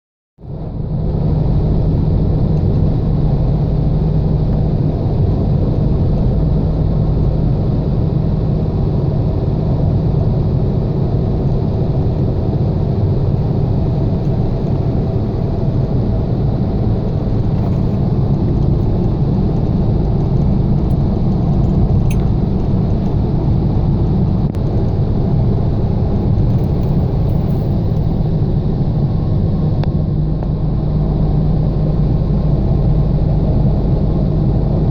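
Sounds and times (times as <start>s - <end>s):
car engine rumble: 0.4s - 34.9s
road noise: 0.4s - 34.9s.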